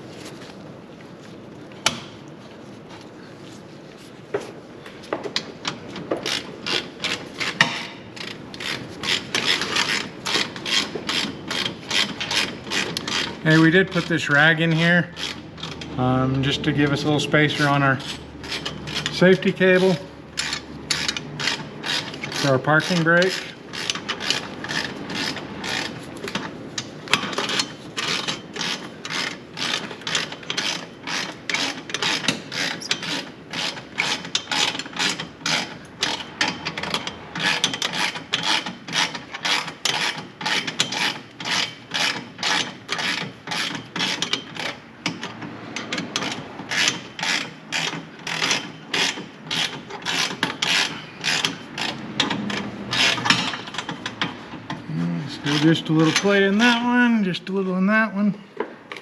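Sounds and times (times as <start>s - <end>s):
ratchet wrench clicking: 6.2s - 14.2s, 14.8s - 16.0s, 16.8s - 54.8s.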